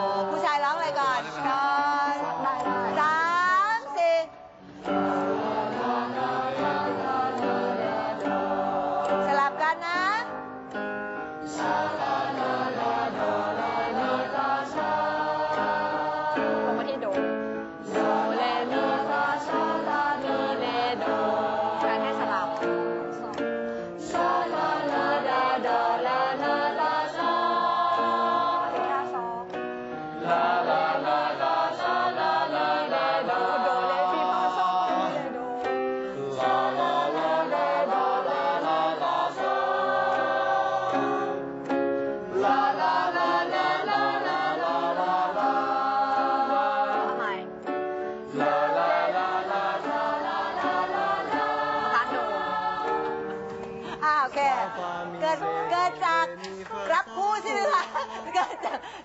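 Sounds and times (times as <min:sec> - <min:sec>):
group singing vocal warm-up: 0:00.0 - 0:59.0.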